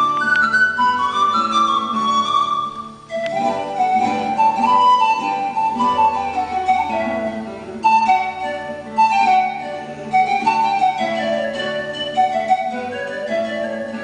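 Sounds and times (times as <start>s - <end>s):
pan flute melody: 0.0s - 14.0s
plucked guitar: 0.0s - 14.0s.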